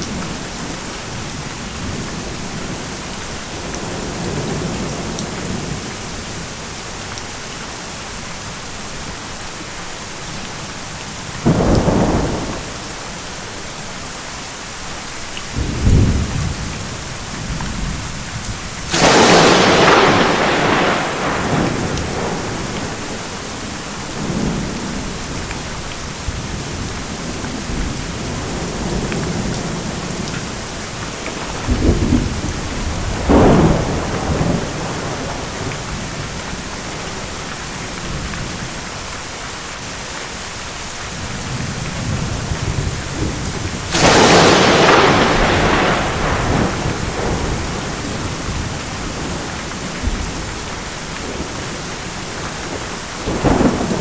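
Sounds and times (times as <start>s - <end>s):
thunder rumbling and cracking: 0.0s - 6.5s, 11.3s - 13.0s, 15.5s - 38.7s, 41.1s - 54.0s
steady rain: 0.0s - 54.0s.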